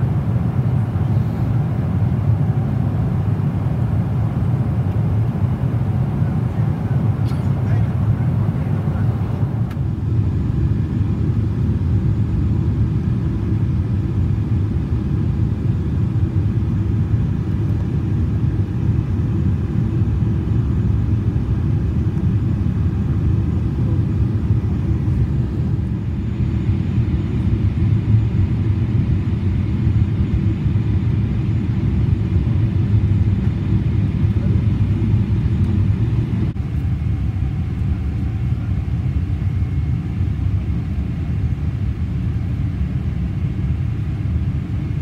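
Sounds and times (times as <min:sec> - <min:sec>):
airliner engine rumble in cabin: 0:00.0 - 0:45.0.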